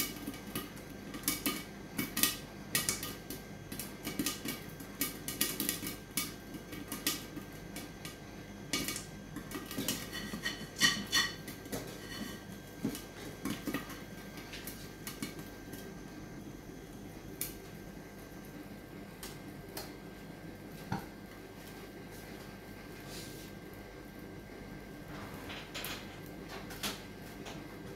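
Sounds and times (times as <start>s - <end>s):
popcorn popping in a covered pan: 0.0s - 27.9s.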